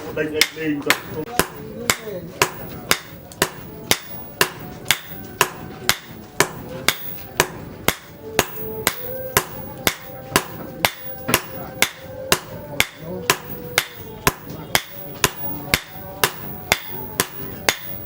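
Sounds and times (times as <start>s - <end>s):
hammer striking steel: 0.0s - 18.0s.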